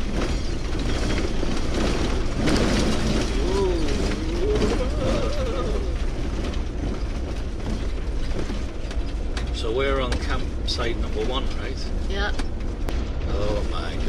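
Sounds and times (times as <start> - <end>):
vehicle rumble on dirt road: 0.0 - 14.0.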